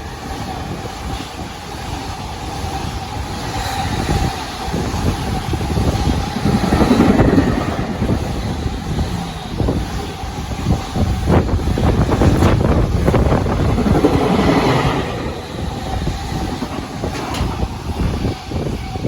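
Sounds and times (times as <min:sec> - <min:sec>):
passing train rumbling: 0:00.0 - 0:19.0
wind buffeting microphone: 0:00.0 - 0:19.0.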